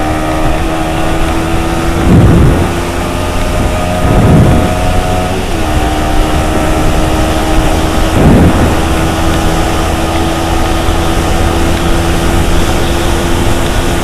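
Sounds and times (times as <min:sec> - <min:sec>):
motorcycle engine at high revs: 0:00.0 - 0:14.0
wind noise: 0:00.0 - 0:14.0.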